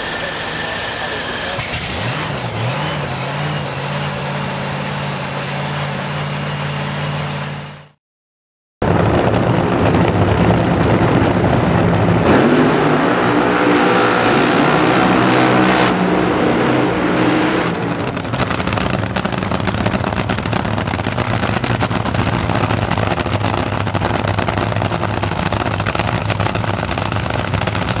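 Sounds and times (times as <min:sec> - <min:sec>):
funny car engine revving: 0:00.0 - 0:07.9, 0:12.3 - 0:28.0.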